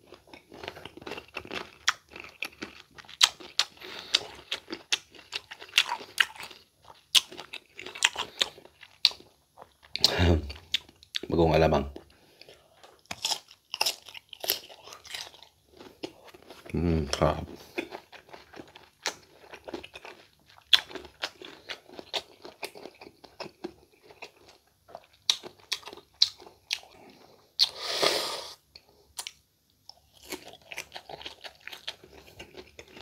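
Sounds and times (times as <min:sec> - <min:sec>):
chewing crisp mango: 0:00.0 - 0:11.4, 0:12.4 - 0:27.9, 0:29.1 - 0:33.0.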